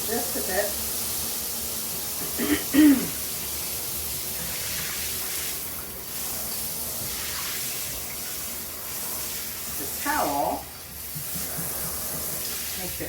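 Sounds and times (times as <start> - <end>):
shower spraying water: 0.0 - 13.0.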